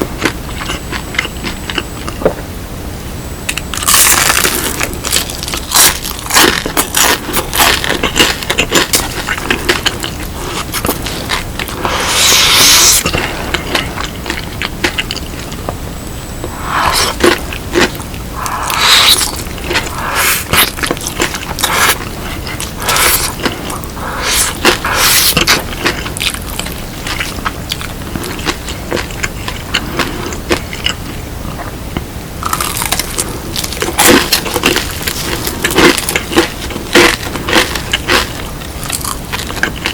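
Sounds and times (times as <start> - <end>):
crunching and chewing fried chicken: 0.0 - 2.2, 3.5 - 15.7, 16.4 - 39.9.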